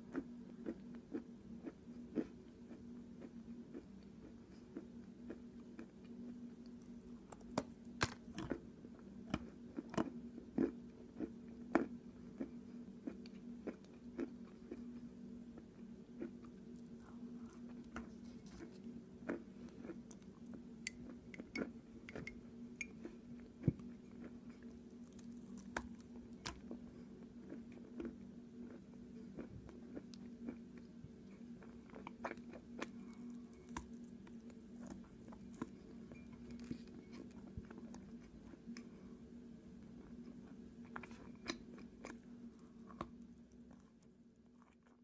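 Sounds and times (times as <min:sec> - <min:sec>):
steady low hum: 0:00.0 - 0:45.0
crunchy chewing: 0:00.1 - 0:45.0.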